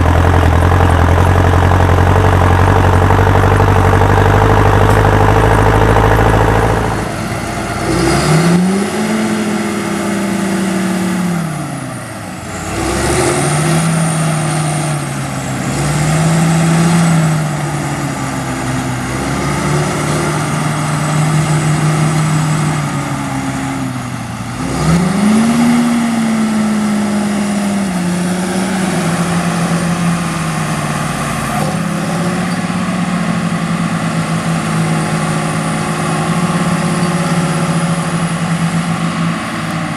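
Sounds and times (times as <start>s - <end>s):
heavy farm machine engine revving: 0.0s - 39.9s.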